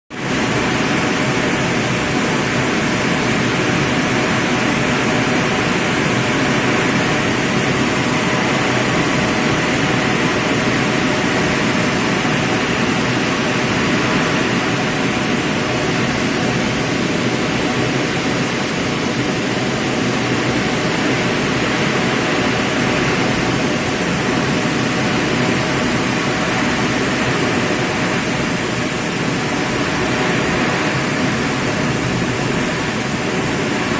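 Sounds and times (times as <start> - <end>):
strong wind: 0.1 - 33.9
heavy rain pouring: 0.2 - 33.9.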